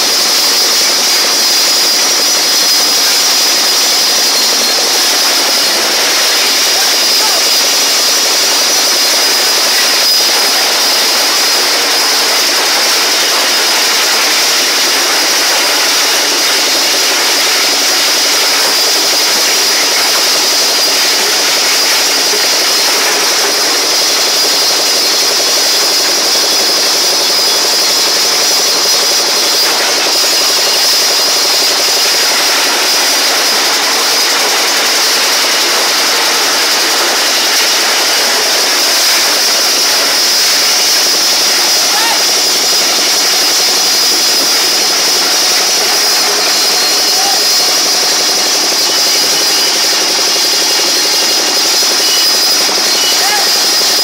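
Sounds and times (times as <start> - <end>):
ice crushing machine grinding: 0.0 - 54.0.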